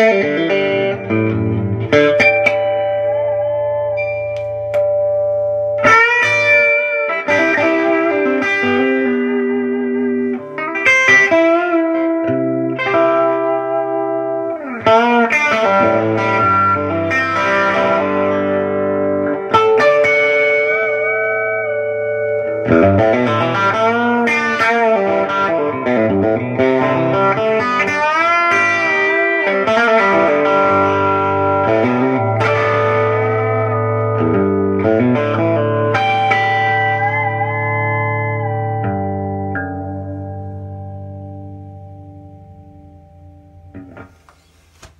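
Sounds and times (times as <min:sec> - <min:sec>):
electric guitar chords and lead lines: 0:00.0 - 0:44.3.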